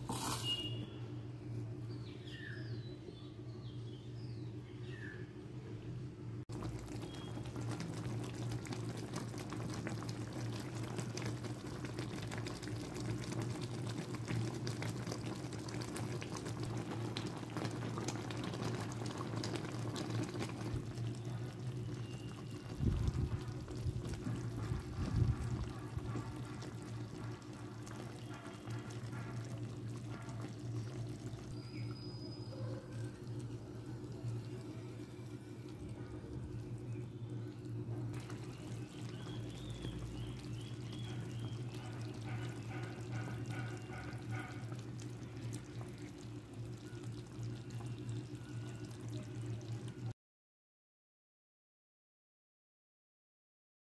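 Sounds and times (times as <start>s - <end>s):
syrup bubbling and crackling: 6.5s - 50.1s.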